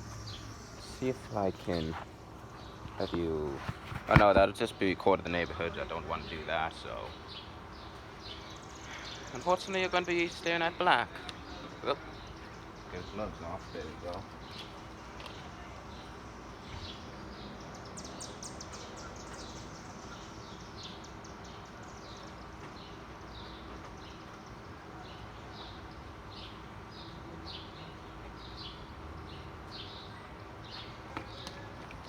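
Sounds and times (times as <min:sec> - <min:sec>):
bird chirping: 0:00.0 - 0:32.0
outdoor background noise: 0:00.0 - 0:32.0.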